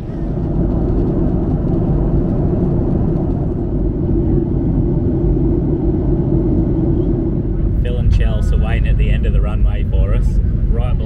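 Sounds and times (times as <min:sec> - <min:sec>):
airliner cabin engine and airflow noise: 0:00.0 - 0:11.0.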